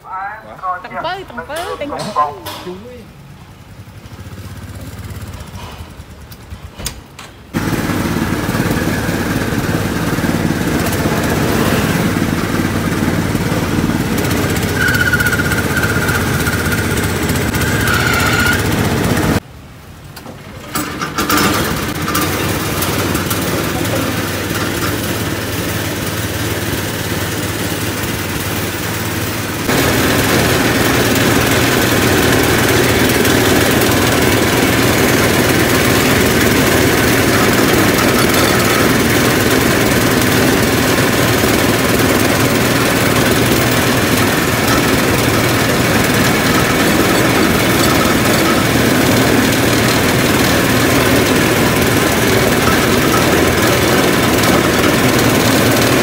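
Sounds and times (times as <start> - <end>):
sugarcane juice press droning: 7.5 - 19.4, 20.2 - 56.0.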